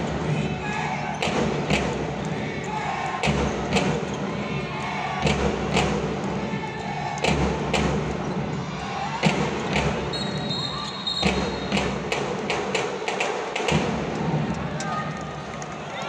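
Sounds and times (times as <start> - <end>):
crowd chatter: 0.0 - 16.0.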